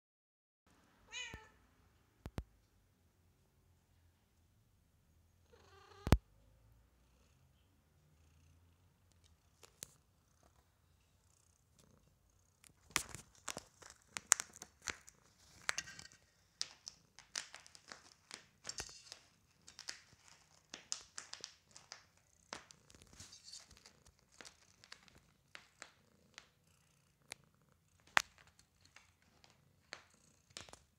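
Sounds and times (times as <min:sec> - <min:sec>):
cat purring: 0:05.4 - 0:30.9.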